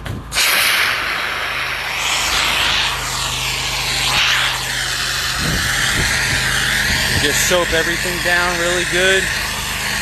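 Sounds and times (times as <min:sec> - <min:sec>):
engine running: 0:00.0 - 0:10.0
spray hissing: 0:00.3 - 0:10.0.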